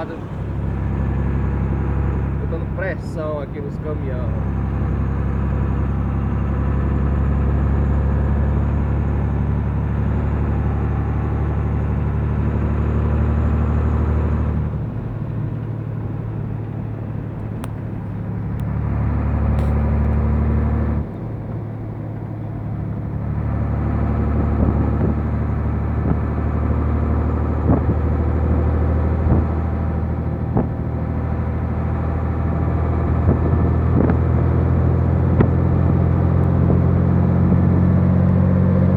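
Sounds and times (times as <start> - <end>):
diesel truck engine under load: 0.0 - 38.9.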